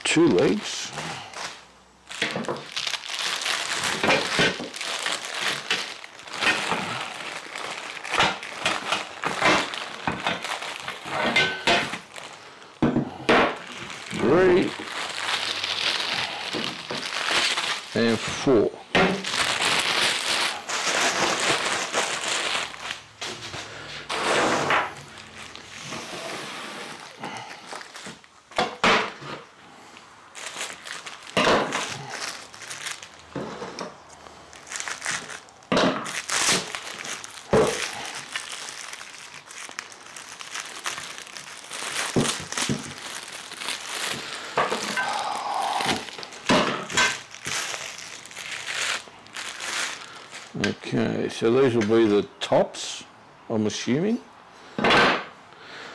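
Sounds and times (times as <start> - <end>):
plastic wrap crinkling: 0.0 - 50.9.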